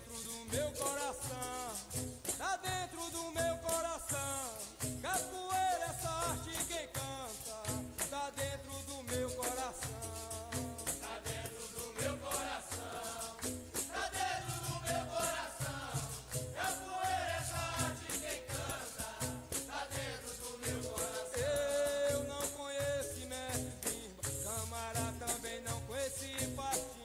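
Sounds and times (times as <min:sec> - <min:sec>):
berimbau: 0:00.0 - 0:27.0
percussion rhythm: 0:00.0 - 0:27.0.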